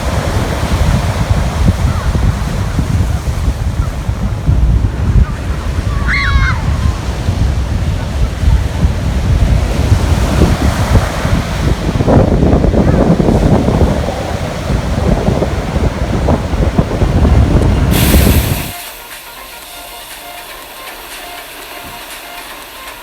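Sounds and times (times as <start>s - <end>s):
wind buffeting microphone: 0.0s - 18.8s
ocean surf: 0.0s - 23.0s.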